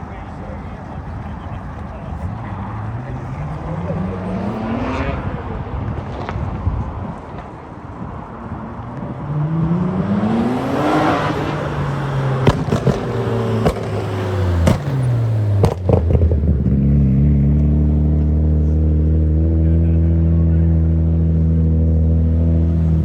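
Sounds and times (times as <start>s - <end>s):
car engine revving: 1.2s - 7.4s, 8.2s - 23.0s.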